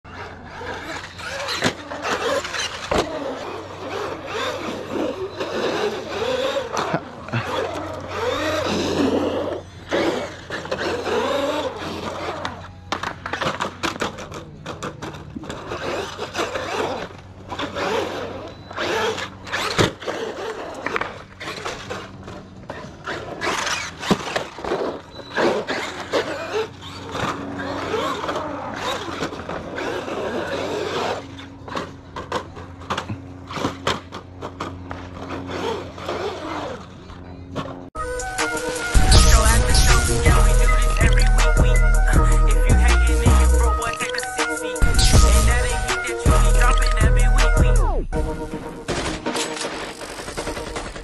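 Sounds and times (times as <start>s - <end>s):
electric toy truck motor whining: 0.1s - 48.5s.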